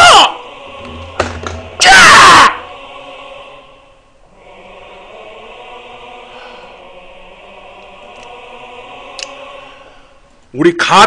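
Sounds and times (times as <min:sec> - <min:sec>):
choir-like held tones: 0:00.0 - 0:10.5.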